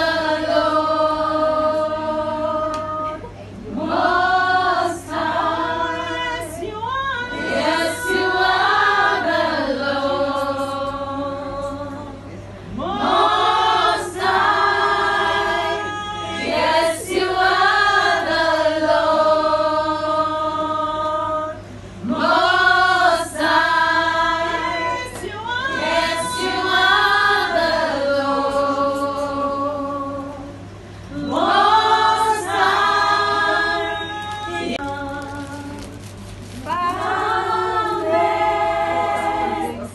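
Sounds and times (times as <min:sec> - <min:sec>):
women singing in chorus: 0:00.0 - 0:36.0, 0:36.6 - 0:39.9
steady low hum: 0:00.0 - 0:39.9.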